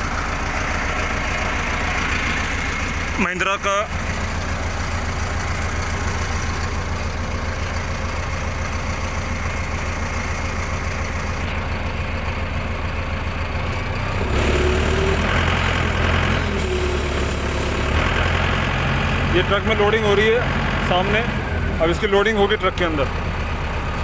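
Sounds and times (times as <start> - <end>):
tractor diesel engine rumbling: 0.0 - 24.0.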